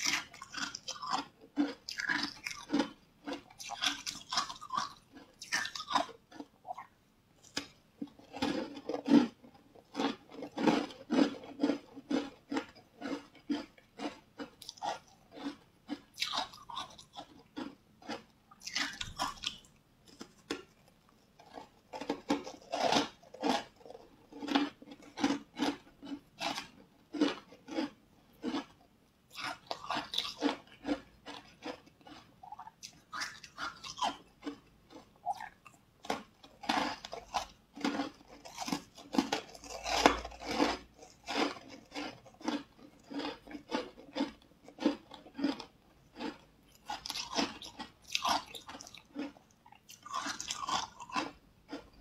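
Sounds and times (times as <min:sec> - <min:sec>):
close chewing sounds: 0:00.0 - 0:52.0.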